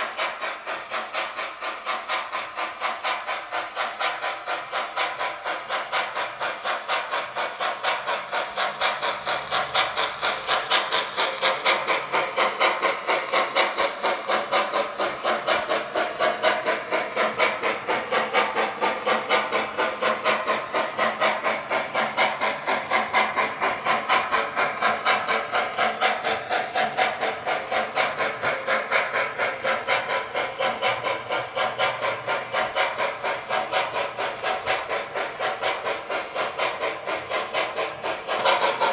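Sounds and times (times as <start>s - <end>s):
model steam locomotive chuffs: 0.0s - 38.9s.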